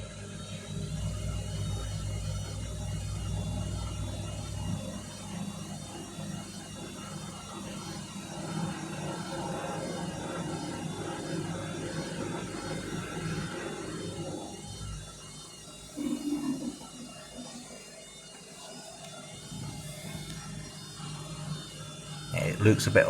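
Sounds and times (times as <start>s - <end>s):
washing machine humming: 0.0s - 23.0s.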